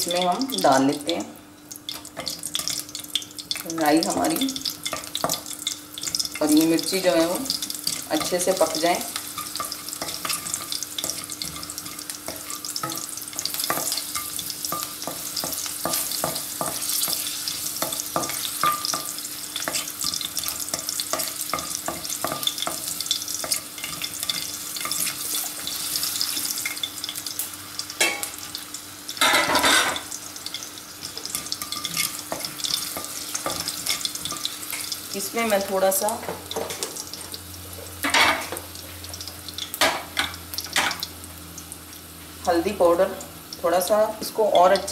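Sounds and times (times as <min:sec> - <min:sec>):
seeds sizzling in hot oil: 0:00.0 - 0:44.9.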